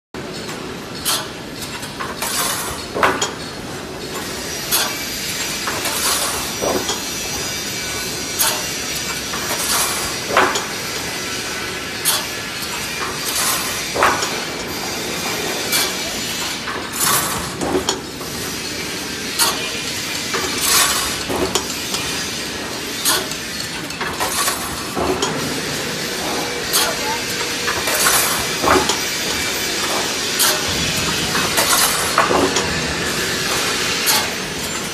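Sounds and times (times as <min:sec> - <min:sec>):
welding machine metallic clanks: 0:00.2 - 0:34.9
steady machine hiss: 0:04.0 - 0:34.9.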